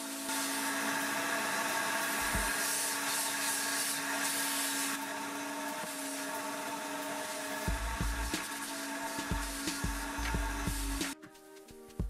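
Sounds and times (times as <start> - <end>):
hand tool sucking water hiss: 0.0 - 11.2
carpet extractor motor whine: 0.3 - 10.9.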